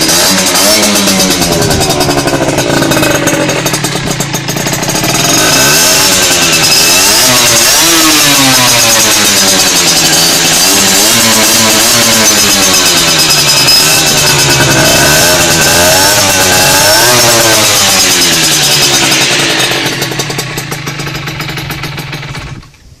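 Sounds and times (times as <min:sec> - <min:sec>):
moped engine revving: 0:00.0 - 0:23.0.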